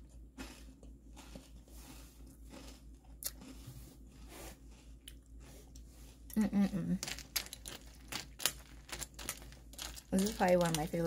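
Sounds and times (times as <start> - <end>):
cereal crunching chewing: 0.0 - 5.9, 7.0 - 11.0.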